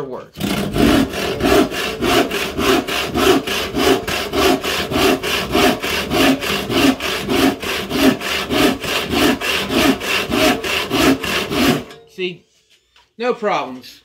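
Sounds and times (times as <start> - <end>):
hand saw cutting wood: 0.4 - 12.0.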